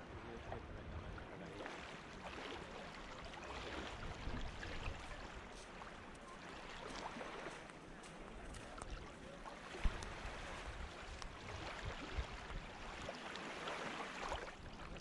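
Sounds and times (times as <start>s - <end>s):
small waves washing over sand: 0.0s - 15.0s.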